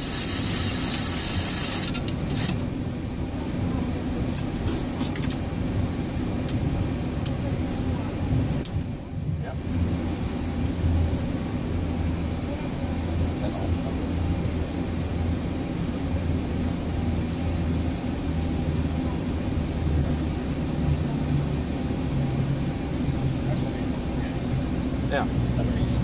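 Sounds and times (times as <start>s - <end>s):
aircraft engine hum in cockpit: 0.0s - 26.0s.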